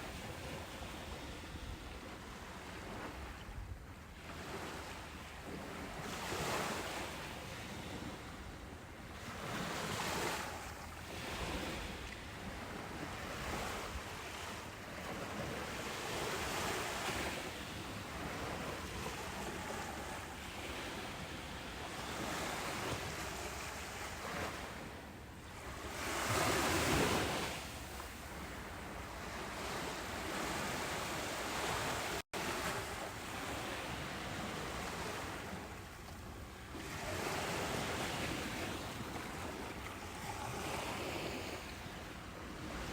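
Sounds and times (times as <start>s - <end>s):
ocean waves breaking: 4.2s - 42.9s.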